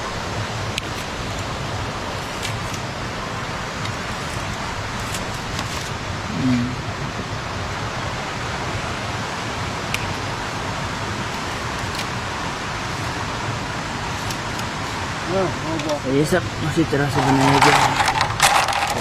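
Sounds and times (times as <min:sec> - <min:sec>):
stream flowing over stones: 0:00.0 - 0:19.0.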